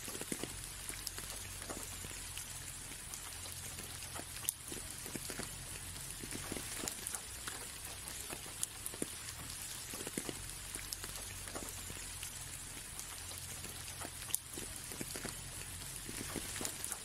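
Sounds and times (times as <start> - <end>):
light rain on window: 0.0 - 17.0.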